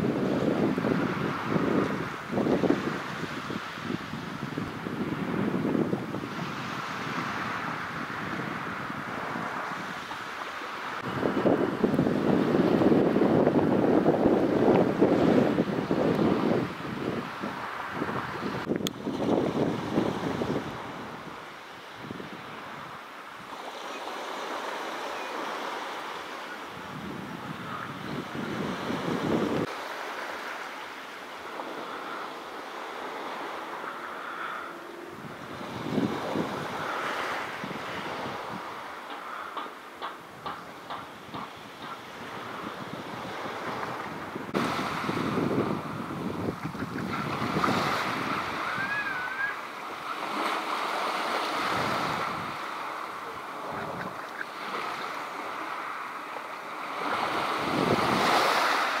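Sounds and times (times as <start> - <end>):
wind gusting on microphone: 0.0 - 26.0, 26.6 - 30.6, 31.3 - 59.0
small waves washing: 0.0 - 59.0.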